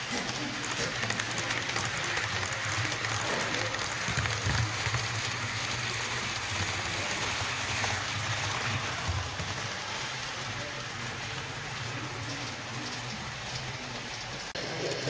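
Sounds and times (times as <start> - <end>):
wheels clicking over rail joints: 0.0 - 15.0.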